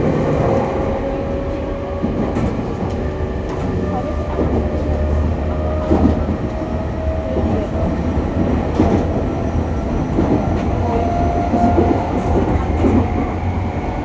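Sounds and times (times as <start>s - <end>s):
train wheels rumbling on rail: 0.0s - 14.0s
train knocks: 1.8s - 13.6s.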